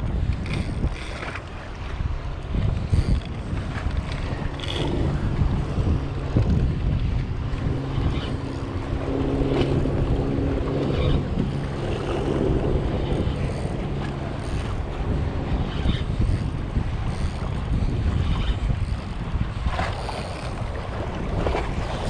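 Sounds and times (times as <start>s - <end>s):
boat motor humming: 0.0s - 22.0s
wind buffeting microphone: 0.0s - 22.0s.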